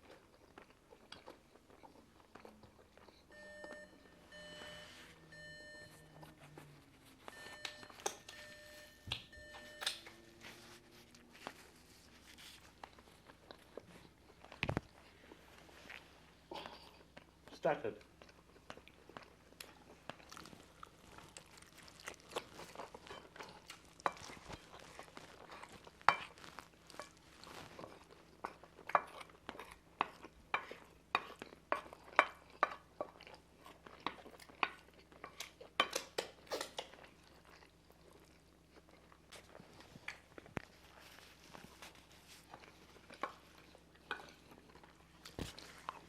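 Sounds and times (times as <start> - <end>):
chewing: 0.0 - 46.0.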